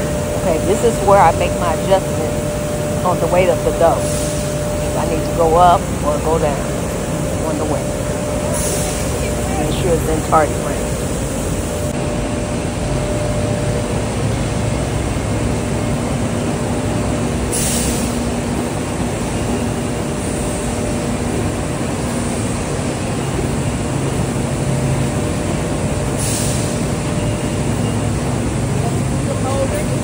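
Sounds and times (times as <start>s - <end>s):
production line machinery running: 0.0s - 30.0s.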